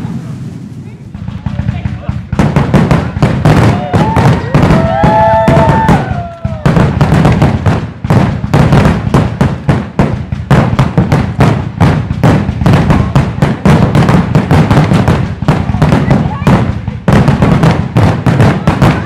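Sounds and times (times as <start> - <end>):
firework shell bursts and crackling: 0.0 - 19.0.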